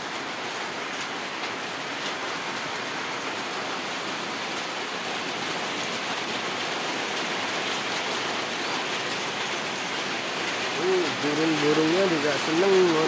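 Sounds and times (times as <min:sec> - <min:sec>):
heavy rain on wet ground: 0:00.0 - 0:13.0.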